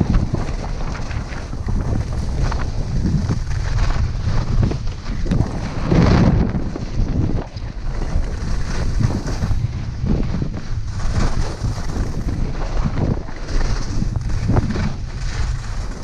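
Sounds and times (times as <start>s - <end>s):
skis carving on hard snow: 0.0s - 16.0s
wind buffeting microphone: 0.0s - 16.0s.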